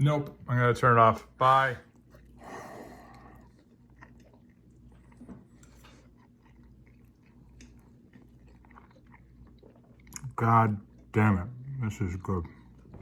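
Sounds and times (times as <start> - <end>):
people chewing food: 1.2 - 13.0.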